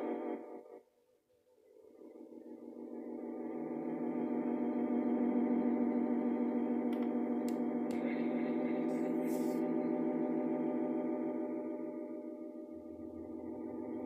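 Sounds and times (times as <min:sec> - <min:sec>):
ambient synthesizer drone: 0:00.0 - 0:00.8, 0:01.4 - 0:14.0.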